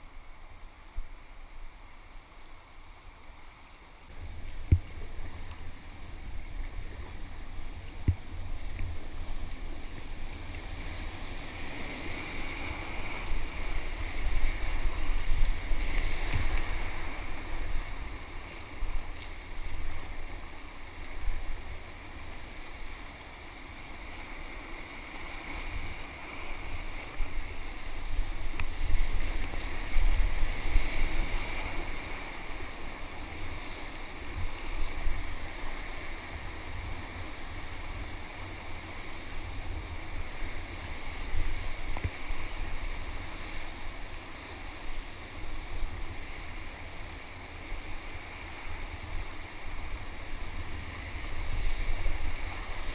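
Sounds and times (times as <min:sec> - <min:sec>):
wind rumbling on microphone: 0:00.0 - 0:52.9.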